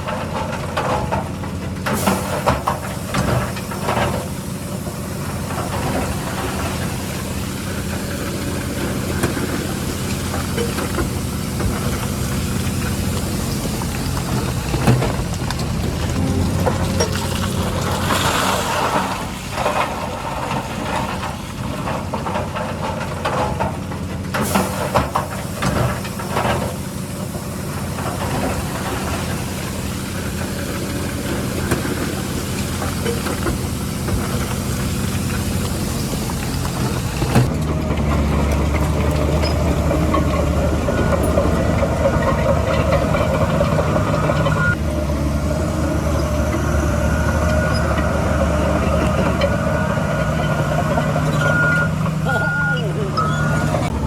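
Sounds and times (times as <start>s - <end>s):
deep loud engine: 0.0s - 54.0s
diesel machinery running: 0.0s - 54.0s.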